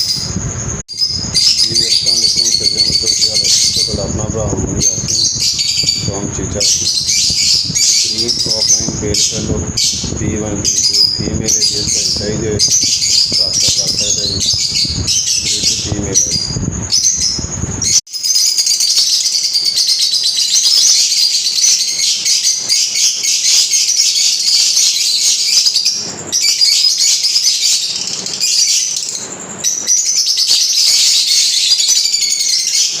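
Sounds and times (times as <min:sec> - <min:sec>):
cage birds chirping and twittering: 0:00.0 - 0:33.0.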